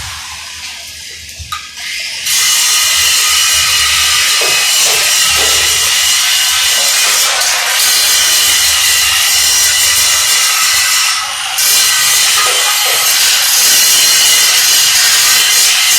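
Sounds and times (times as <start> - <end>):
harsh hissing metalworking rasp: 1.8 - 15.9.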